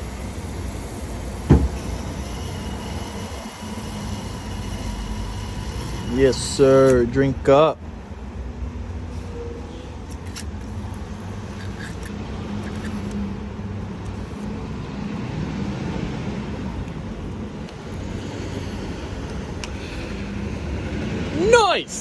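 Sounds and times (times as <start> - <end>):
idling vehicle engines and traffic: 0.0 - 22.0.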